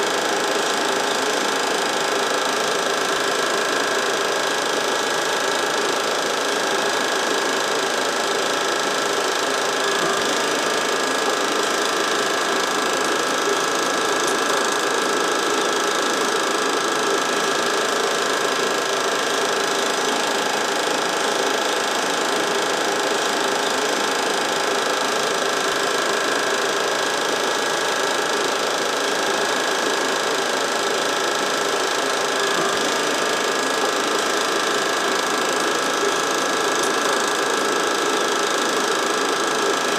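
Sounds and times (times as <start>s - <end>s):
film projector whirring and clattering: 0.0s - 39.9s.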